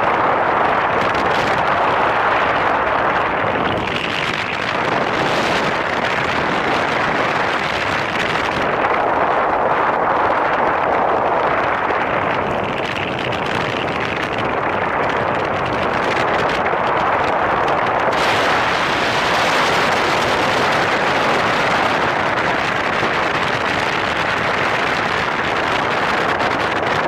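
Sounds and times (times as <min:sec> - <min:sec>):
wind roar on microphone: 0:00.0 - 0:27.0.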